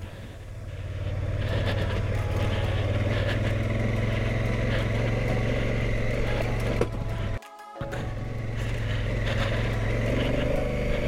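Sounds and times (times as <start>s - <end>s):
motorcycle engine on gravel: 0.0s - 11.0s.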